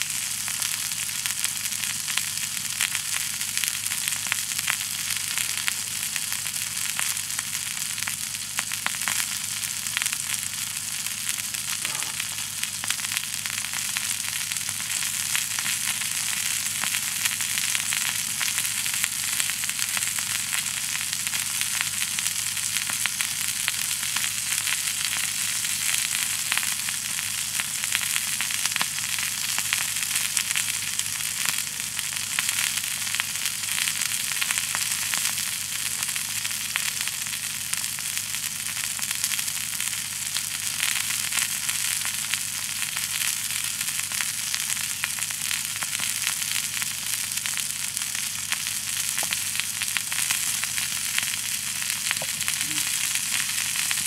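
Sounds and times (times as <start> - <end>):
food sizzling in a skillet: 0.0 - 54.0.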